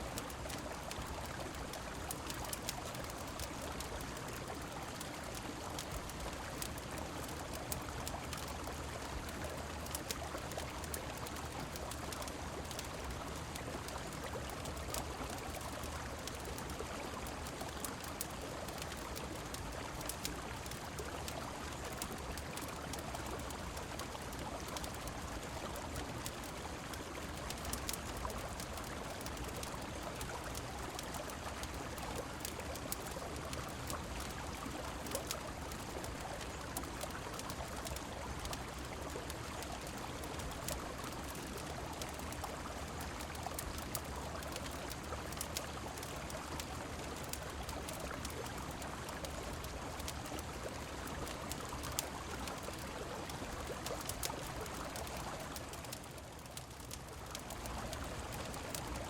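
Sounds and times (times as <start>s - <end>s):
rain falling: 0.0s - 59.0s
wood fire crackling: 0.1s - 59.0s.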